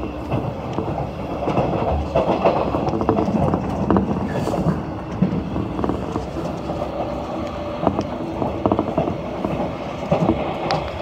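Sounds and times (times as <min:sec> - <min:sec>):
train running rumble: 0:00.0 - 0:11.0
wheels clicking over rail joints: 0:00.0 - 0:11.0.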